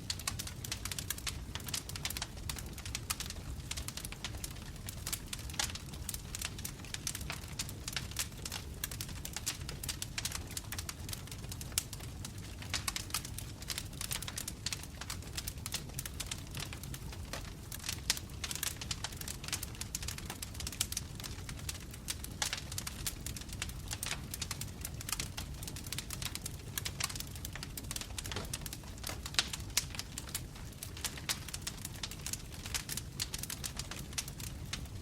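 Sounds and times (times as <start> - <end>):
low rumble of flame: 0.0 - 35.0
wood fire crackling: 0.0 - 35.0.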